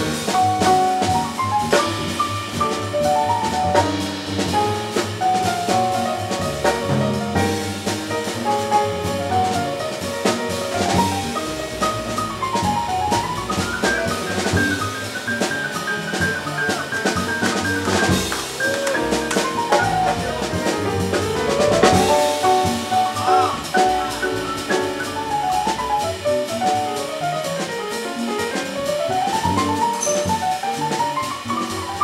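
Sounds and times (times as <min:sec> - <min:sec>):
drum kit with cymbals: 0:00.0 - 0:32.0
grand piano: 0:00.0 - 0:32.0
upright double bass: 0:00.0 - 0:32.0.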